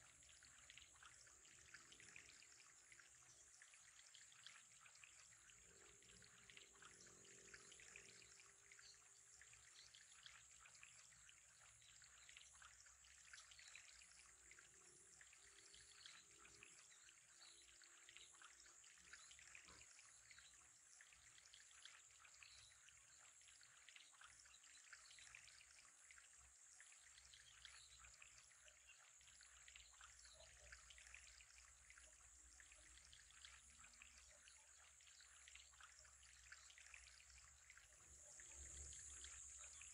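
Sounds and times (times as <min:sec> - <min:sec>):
tiny water drips and pops: 0:00.0 - 0:39.9
water trickling into aquarium: 0:00.0 - 0:39.9.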